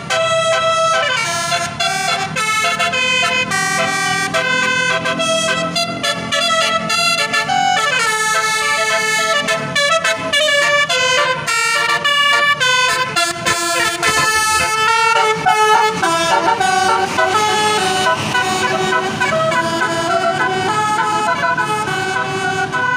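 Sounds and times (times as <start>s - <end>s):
bus horn playing a tune: 0.0s - 22.9s.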